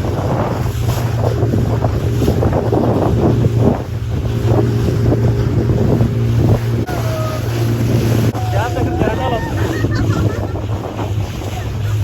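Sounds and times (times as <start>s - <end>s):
motorboat engine droning: 0.0s - 12.0s
water rushing past hull: 0.0s - 12.0s
wind buffeting microphone: 0.0s - 12.0s.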